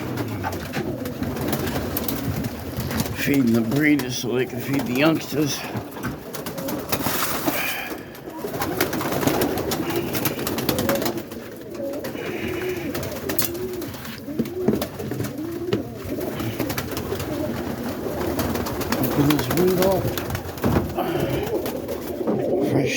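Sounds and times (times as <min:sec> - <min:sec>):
pigeons cooing: 0:00.0 - 0:22.9.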